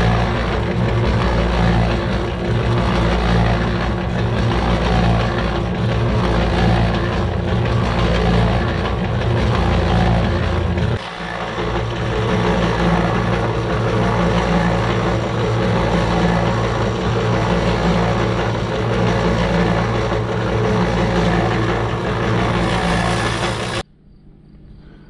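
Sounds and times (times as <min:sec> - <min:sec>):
cement mixer humming: 0:00.0 - 0:23.8.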